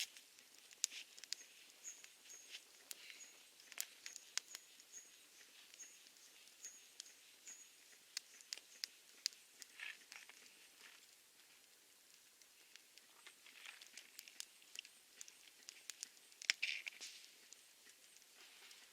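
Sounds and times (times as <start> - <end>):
campfire crackling: 0.0 - 18.9.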